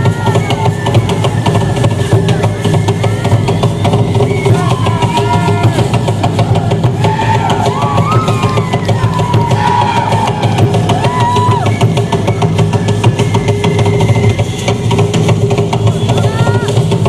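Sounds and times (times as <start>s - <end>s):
live drum-driven music: 0.0s - 17.0s.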